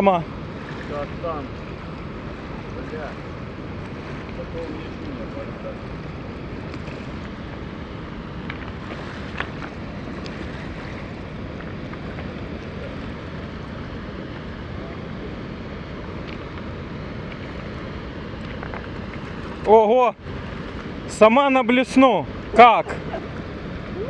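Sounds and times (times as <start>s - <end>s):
wind on microphone: 0.0s - 21.1s
river water rushing: 0.0s - 24.0s.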